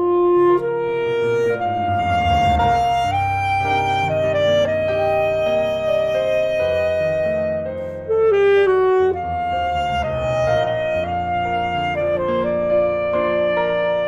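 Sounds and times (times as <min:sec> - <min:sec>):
piano chords: 0:00.0 - 0:14.0
saxophone slow melody: 0:00.0 - 0:14.0.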